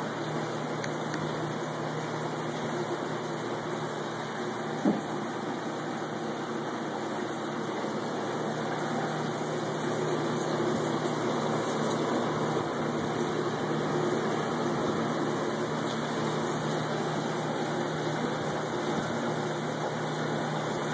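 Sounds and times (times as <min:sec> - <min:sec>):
aquarium pump hum: 0:00.0 - 0:20.9.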